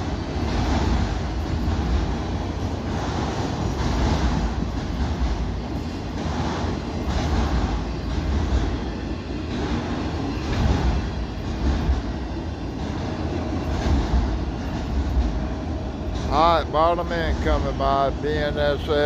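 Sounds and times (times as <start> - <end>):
freight train cars rolling past: 0.0 - 19.0.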